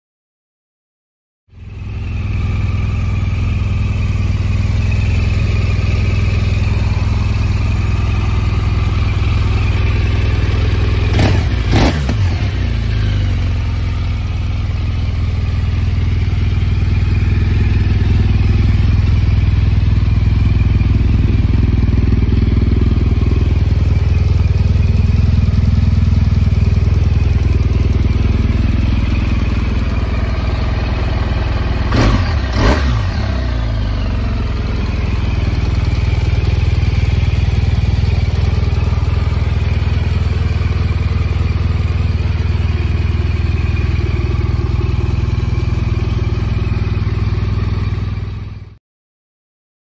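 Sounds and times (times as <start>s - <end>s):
motorcycle engine idling: 1.5s - 48.8s.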